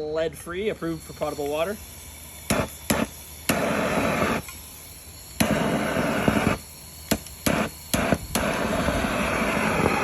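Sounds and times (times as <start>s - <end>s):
torch flame hissing: 0.4s - 10.0s
torch ignition clicks: 1.4s - 10.0s.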